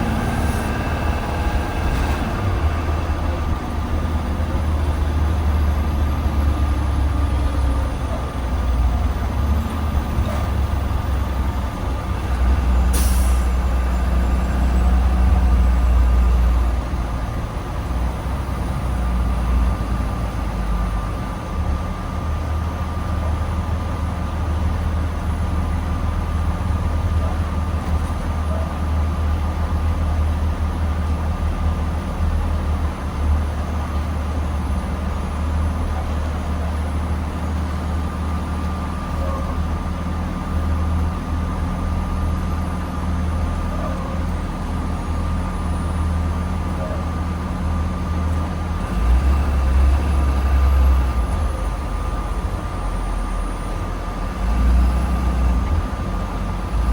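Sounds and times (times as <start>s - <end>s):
bus engine drone: 0.0s - 56.9s
road noise: 0.0s - 56.9s.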